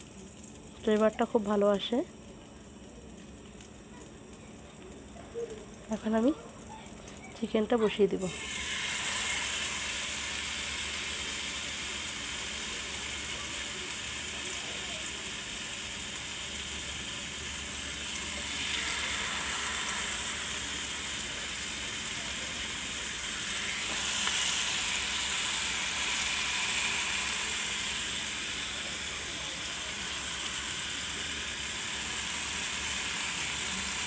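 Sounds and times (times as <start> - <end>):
chicken sizzling in a frying pan: 0.0 - 34.0.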